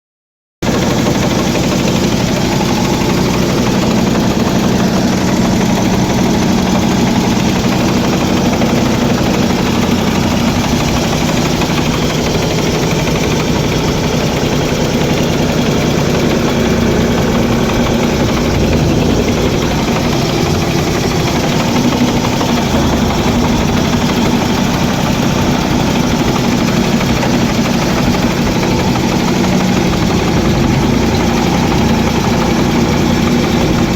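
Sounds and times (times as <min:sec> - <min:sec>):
tractor engine running: 0:00.6 - 0:33.9.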